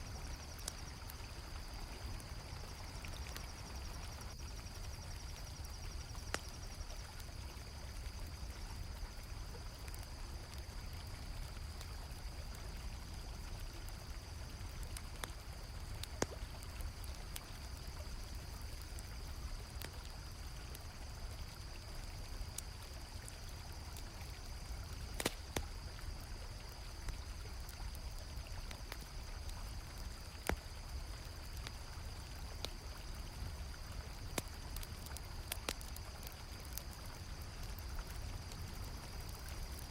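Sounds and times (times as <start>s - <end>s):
campfire crackling pops: 0.0s - 39.9s
crickets chirring: 0.0s - 39.9s.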